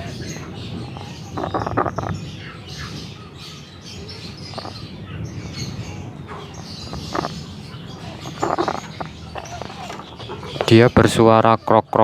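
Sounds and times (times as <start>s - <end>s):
high bird chirps: 0.0s - 11.8s.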